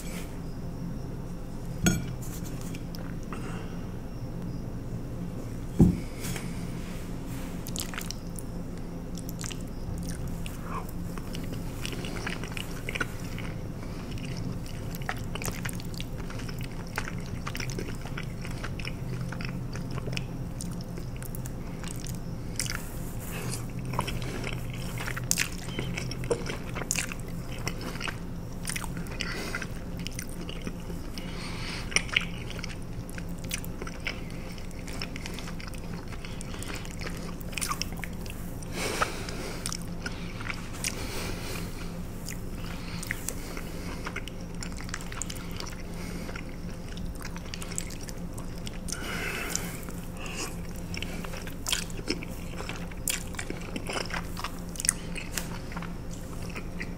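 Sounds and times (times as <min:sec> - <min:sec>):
steady low hum: 0:00.0 - 0:56.9
wet chewing and lip smacking: 0:07.6 - 0:56.9.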